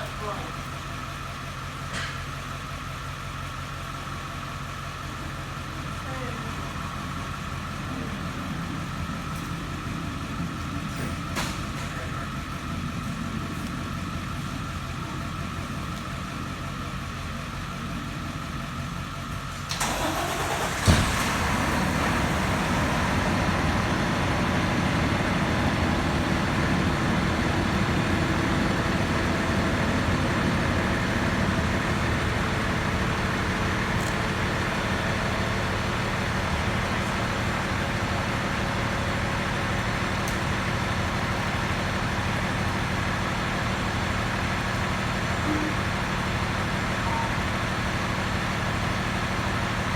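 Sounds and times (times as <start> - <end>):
vehicle engine idling: 0.0 - 49.9.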